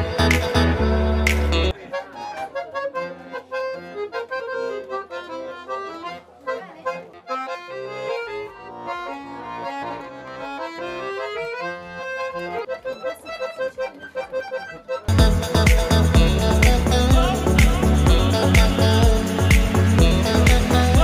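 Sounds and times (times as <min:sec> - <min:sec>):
button accordion playing: 0:00.0 - 0:21.0.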